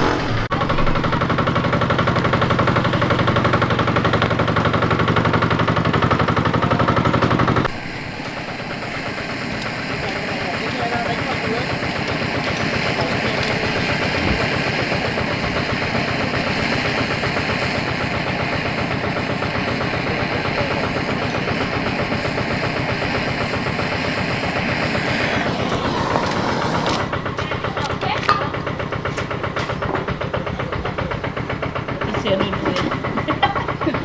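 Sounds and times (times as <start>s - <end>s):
motor running with fast pulse: 0.0s - 34.0s.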